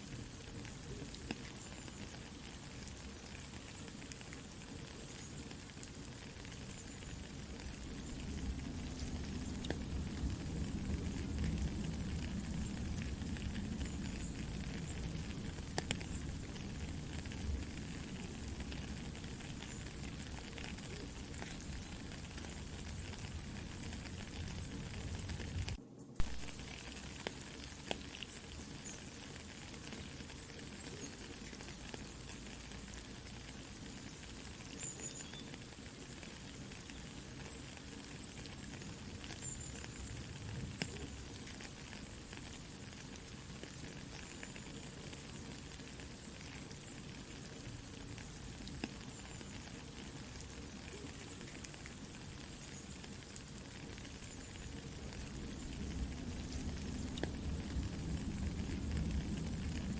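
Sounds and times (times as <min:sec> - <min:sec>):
campfire crackling: 0:00.0 - 0:59.9
soft rain pattering: 0:00.0 - 0:59.9.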